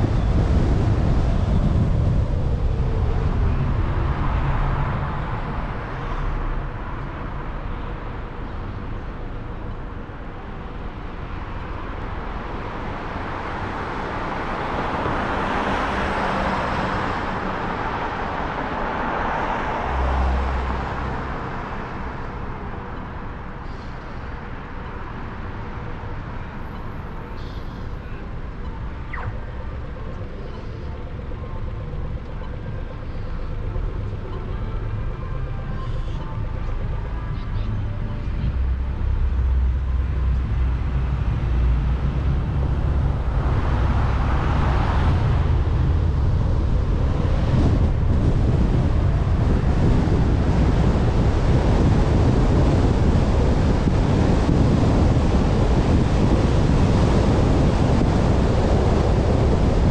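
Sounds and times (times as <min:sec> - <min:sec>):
cars passing by: 0:00.0 - 0:59.9
rumble of road traffic: 0:00.0 - 0:59.9.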